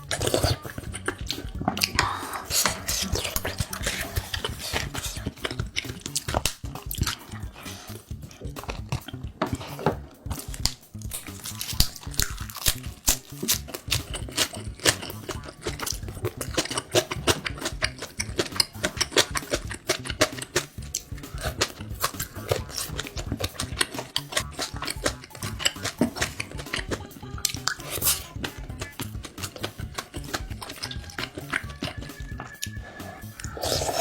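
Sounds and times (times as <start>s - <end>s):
close chewing with wet smacks: 0.0s - 34.0s.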